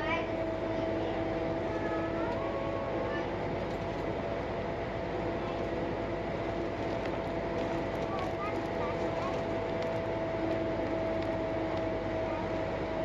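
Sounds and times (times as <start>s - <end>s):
bus engine and road rumble: 0.0s - 13.0s
constant hum: 0.0s - 13.0s.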